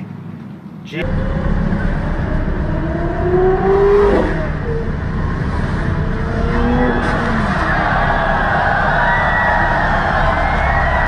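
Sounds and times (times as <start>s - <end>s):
low engine rumble: 0.0s - 11.0s
sports car engines revving: 1.0s - 11.0s.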